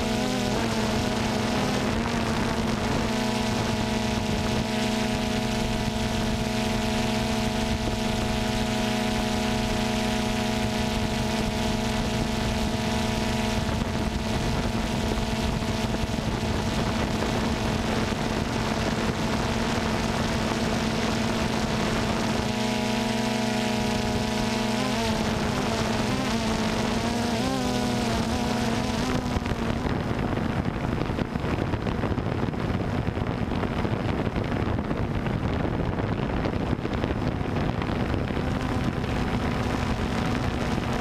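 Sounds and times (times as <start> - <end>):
drone propellers buzzing: 0.0 - 41.0.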